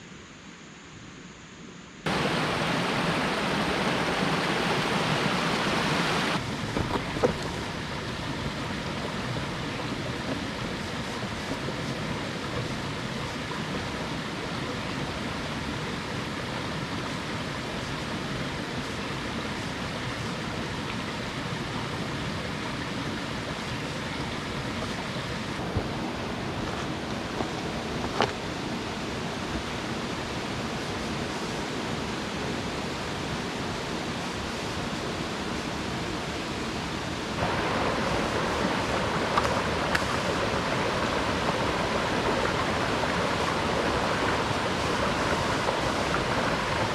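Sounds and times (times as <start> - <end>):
running water rushing: 2.1 - 46.9.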